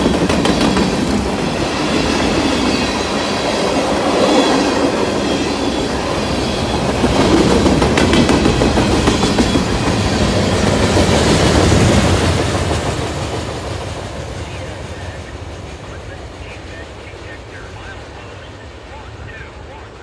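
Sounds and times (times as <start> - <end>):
train wheels rumbling on rail: 0.0 - 19.4.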